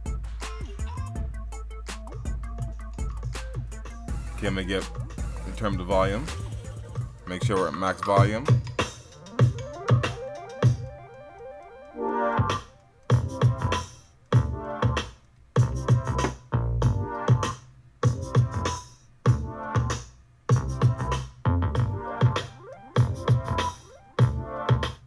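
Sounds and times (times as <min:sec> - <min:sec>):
electronic music with heavy bass: 0:00.0 - 0:25.0.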